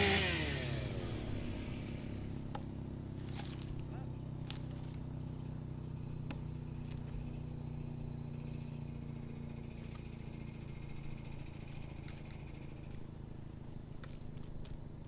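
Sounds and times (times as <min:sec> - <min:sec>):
wood chipper engine humming: 0:00.0 - 0:15.0.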